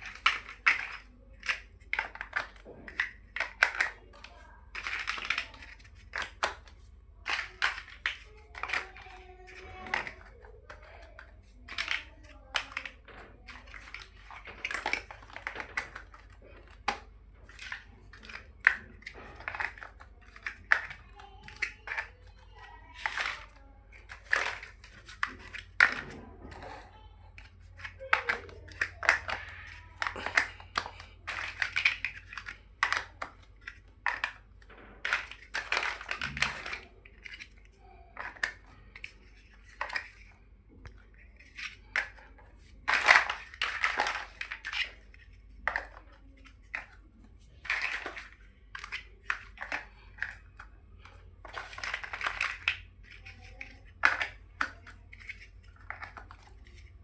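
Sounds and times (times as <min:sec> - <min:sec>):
plastic bricks clicking together: 0:00.0 - 0:57.0.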